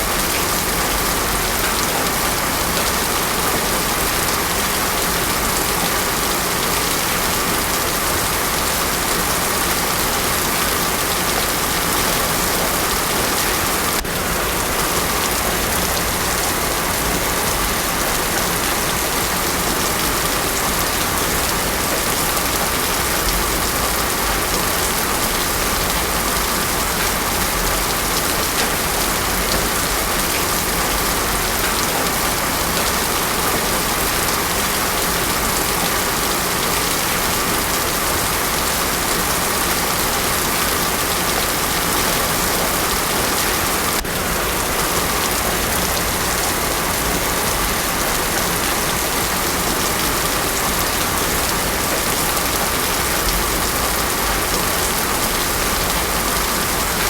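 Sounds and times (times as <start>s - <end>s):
heavy rain on road: 0.0s - 57.0s.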